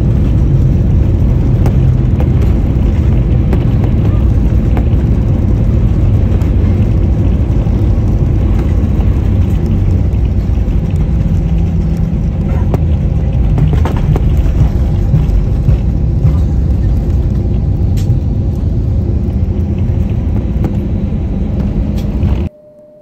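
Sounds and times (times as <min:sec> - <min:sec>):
jet engines rumbling: 0:00.0 - 0:22.5
wheels rolling on runway: 0:00.0 - 0:22.5.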